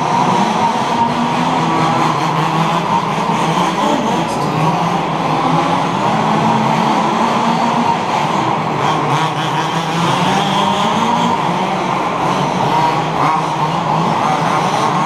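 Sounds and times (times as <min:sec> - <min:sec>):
small two-stroke engines buzzing: 0:00.0 - 0:15.0.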